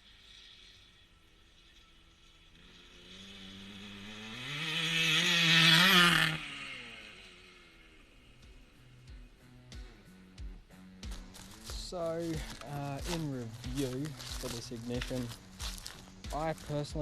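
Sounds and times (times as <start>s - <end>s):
two-stroke motorbike passing: 0.0s - 17.0s.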